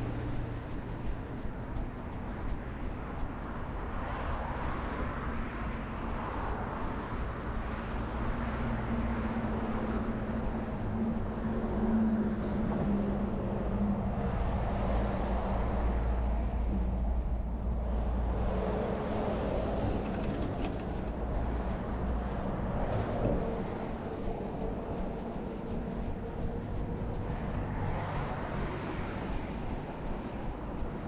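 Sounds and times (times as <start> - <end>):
passing vehicle engine hum: 0.0 - 31.0
steady low traffic rumble: 0.0 - 31.0.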